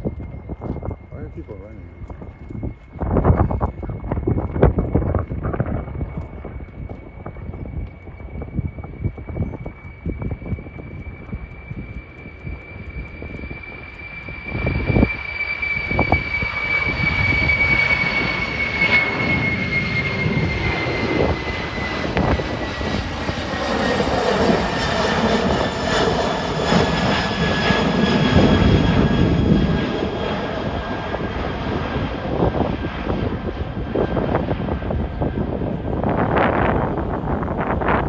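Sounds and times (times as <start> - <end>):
high jet whine falling in pitch: 0.0 - 38.0
jet engines roaring: 0.0 - 38.0.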